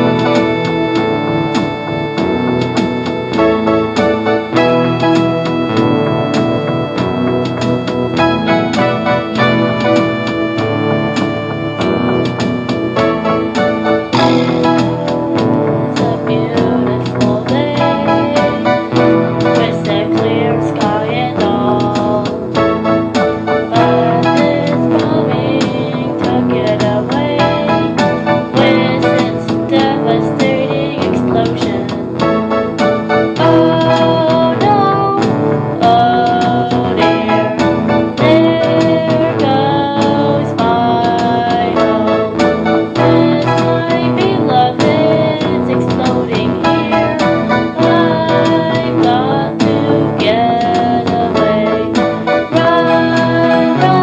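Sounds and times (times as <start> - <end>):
song with keyboard and guitar: 0.0 - 54.0.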